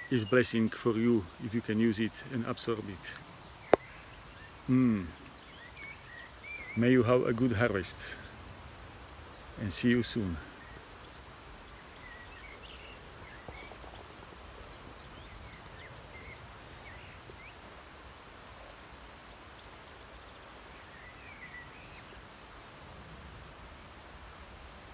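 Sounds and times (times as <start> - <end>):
steady background hiss: 0.0 - 24.9.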